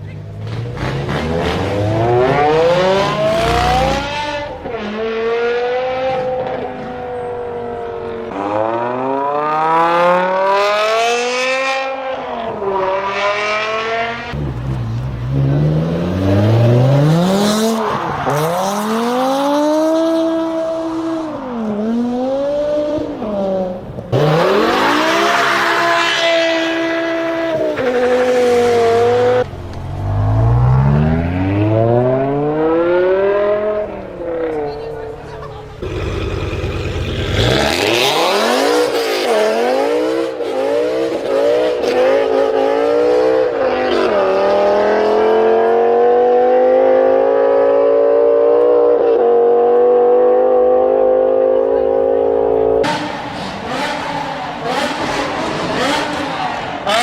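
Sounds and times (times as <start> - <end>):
car engine revving hard: 0.5 - 6.9, 8.3 - 34.6, 35.8 - 57.0.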